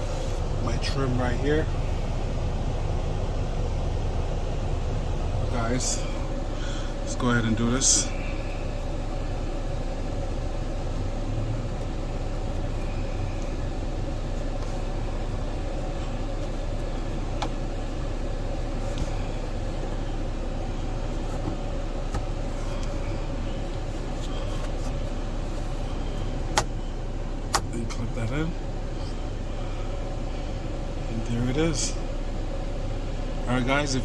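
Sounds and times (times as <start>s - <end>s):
vehicle cabin drone: 0.0s - 34.0s.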